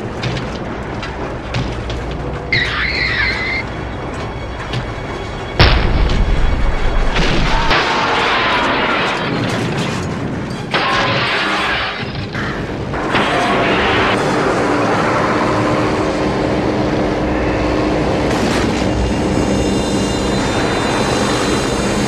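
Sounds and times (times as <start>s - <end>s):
dramatic music: 0.0s - 22.0s.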